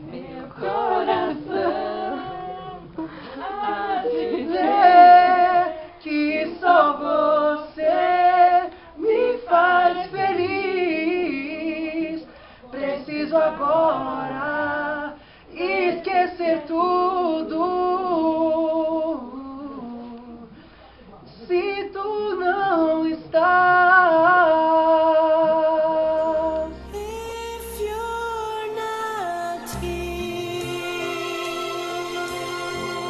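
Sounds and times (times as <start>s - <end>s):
man singing a cappella: 3.7s - 20.6s, 21.4s - 33.0s.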